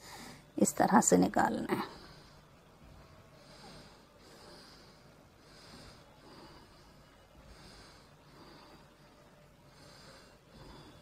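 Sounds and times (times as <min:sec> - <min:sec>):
close breathing: 0:00.0 - 0:00.6, 0:01.7 - 0:11.0
low room hum: 0:00.0 - 0:11.0.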